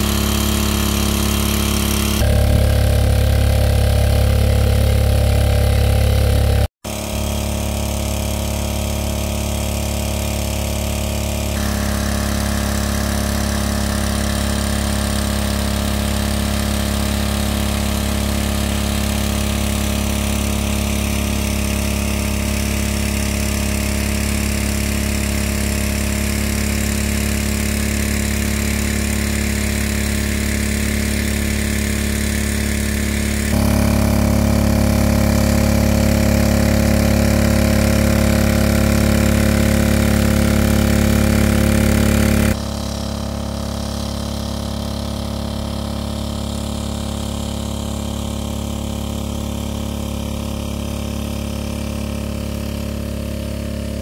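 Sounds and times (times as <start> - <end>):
water pump engine running: 0.0 - 54.0.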